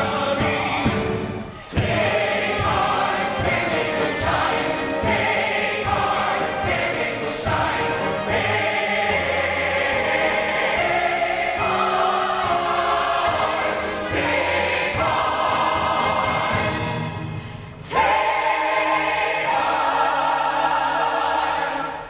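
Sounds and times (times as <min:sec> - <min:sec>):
chorus singing held chords: 0:00.0 - 0:22.0.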